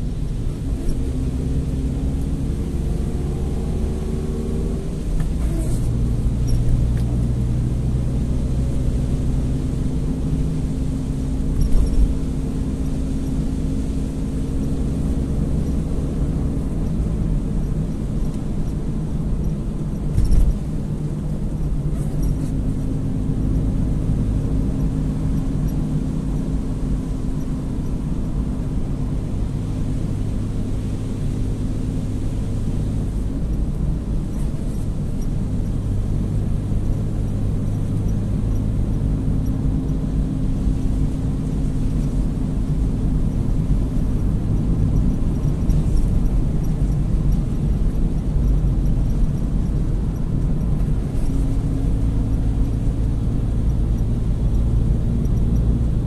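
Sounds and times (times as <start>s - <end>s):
tyres and engine rumble: 0.0s - 56.0s.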